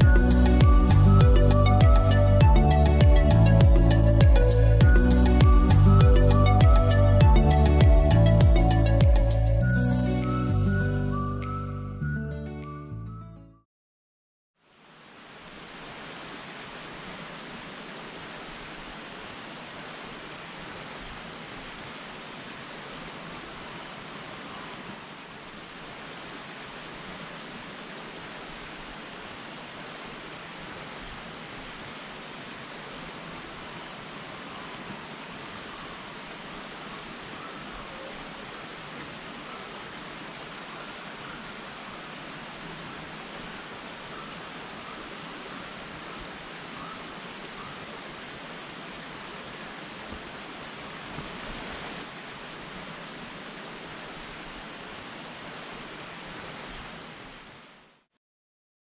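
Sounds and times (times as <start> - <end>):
creek water rushing over rocks: 0.0 - 9.5, 14.6 - 58.1.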